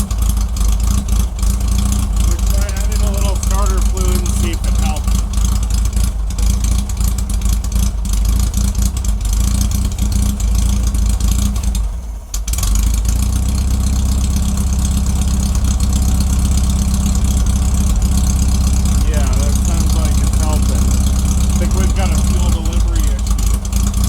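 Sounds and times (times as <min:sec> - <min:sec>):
car engine running unevenly: 0:00.0 - 0:24.0.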